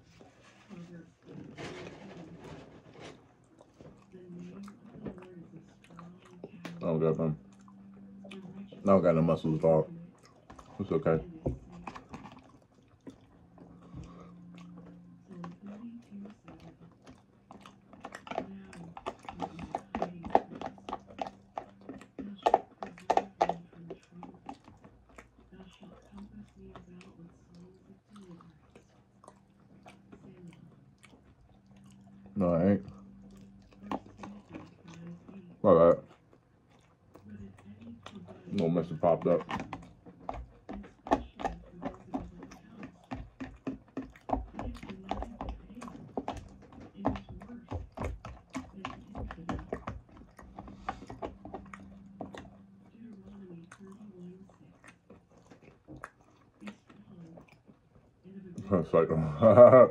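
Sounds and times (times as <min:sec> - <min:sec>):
fingers in plastic bowl: 0:00.0 - 0:36.4, 0:37.0 - 0:59.9
chewing salad: 0:00.0 - 0:59.9.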